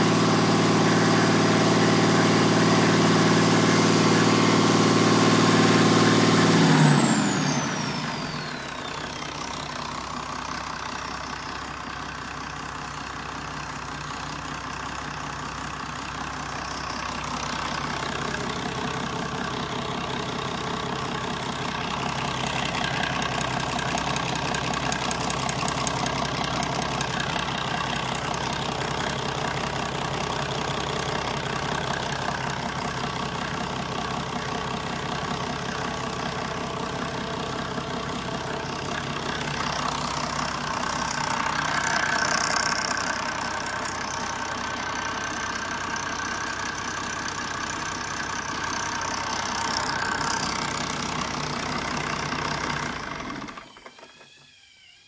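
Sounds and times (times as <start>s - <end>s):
marine diesel engine idling: 0.0s - 53.8s.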